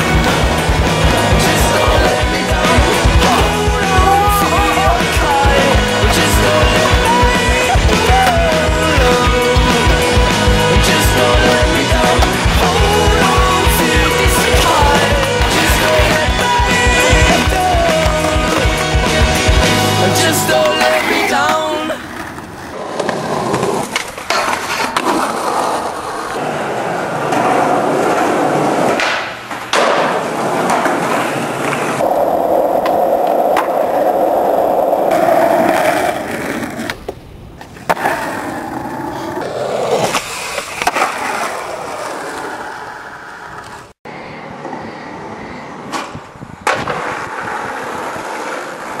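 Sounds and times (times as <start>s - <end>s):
skateboard wheels rolling: 0.0s - 49.0s.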